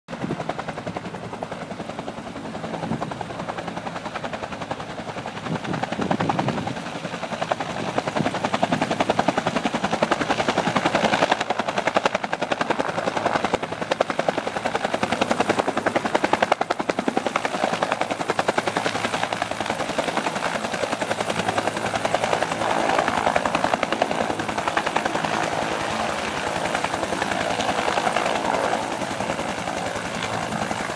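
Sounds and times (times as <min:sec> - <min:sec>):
helicopter rotor chop: 0:00.1 - 0:30.9.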